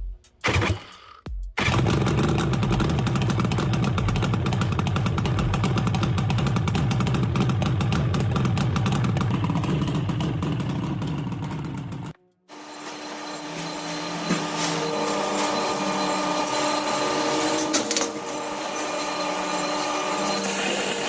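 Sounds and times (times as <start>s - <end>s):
small engine running: 1.6s - 21.0s.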